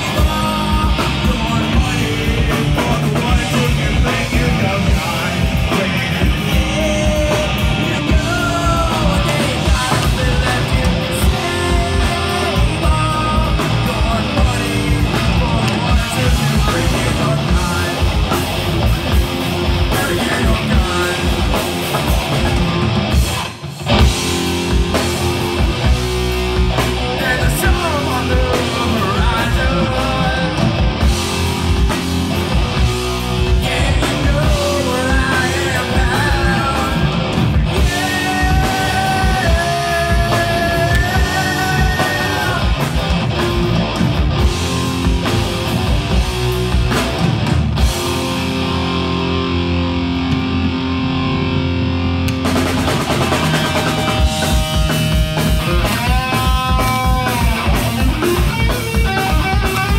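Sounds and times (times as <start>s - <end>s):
electric bass guitar: 0.0s - 59.9s
high held melody line: 0.0s - 59.9s
live rock band playing: 0.0s - 59.9s.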